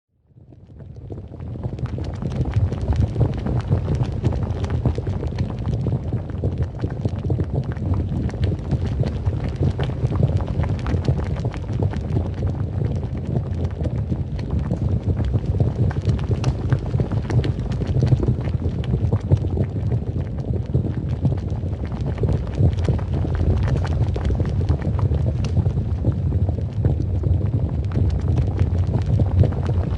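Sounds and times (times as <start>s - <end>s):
crackling and popping: 0.3s - 29.9s
deep volcanic rumble: 0.3s - 29.9s.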